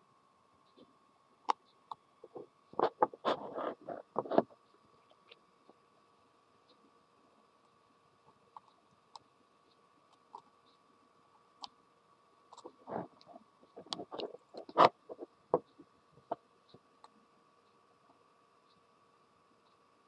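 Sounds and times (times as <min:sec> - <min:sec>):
wire crackling against filament: 0:00.6 - 0:06.9, 0:07.5 - 0:18.9.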